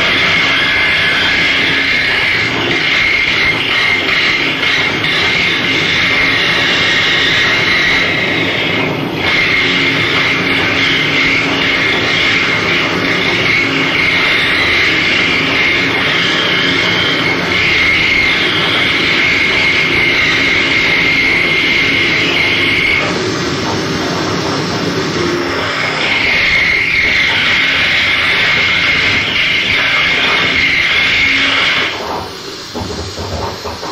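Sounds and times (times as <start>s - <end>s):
harsh noise wall: 0.0s - 33.9s
steady high whine: 0.0s - 33.9s.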